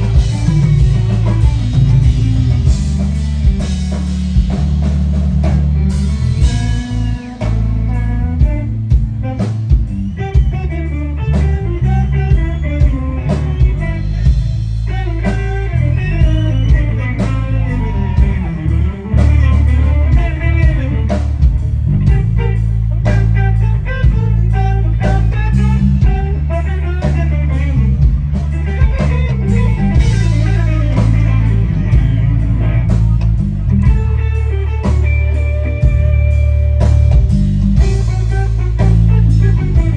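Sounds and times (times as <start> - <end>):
bass: 0.0 - 39.9
drum kit beat: 0.0 - 39.9
electric guitar: 0.0 - 39.9.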